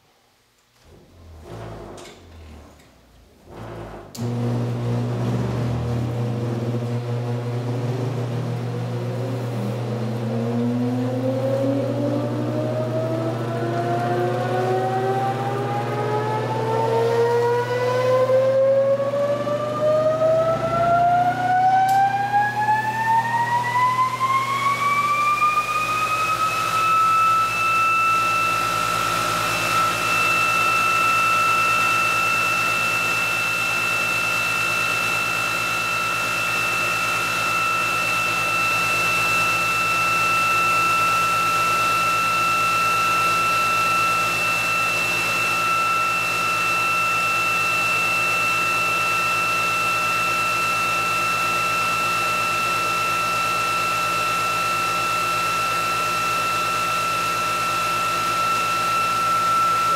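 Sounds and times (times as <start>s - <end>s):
mechanical hum: 0.0s - 59.9s
electric motor whine: 3.5s - 59.9s.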